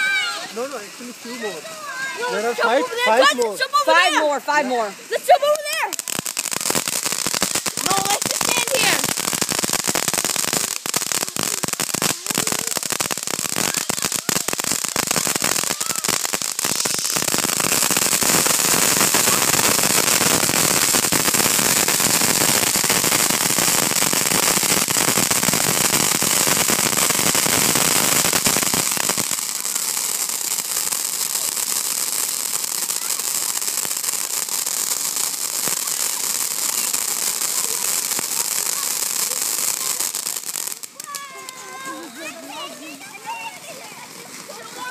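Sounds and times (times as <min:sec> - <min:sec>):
fireworks crackling and popping: 0:00.0 - 0:44.9
steady hiss: 0:00.0 - 0:44.9.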